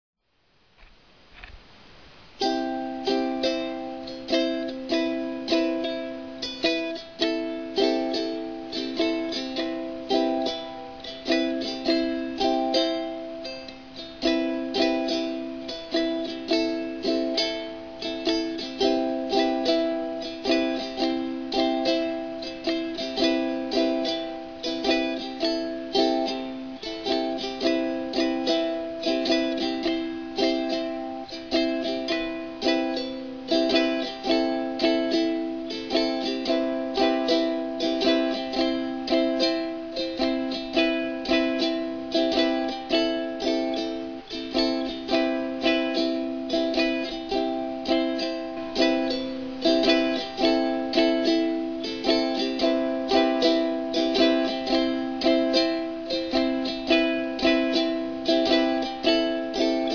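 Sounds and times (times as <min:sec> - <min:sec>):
ukulele strumming: 0:01.3 - 0:59.9.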